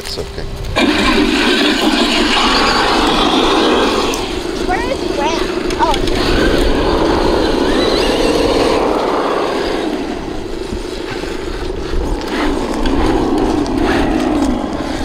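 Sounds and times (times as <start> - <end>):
electric motor and gears whining: 0.0 - 15.0
steady low rumble: 0.0 - 15.0.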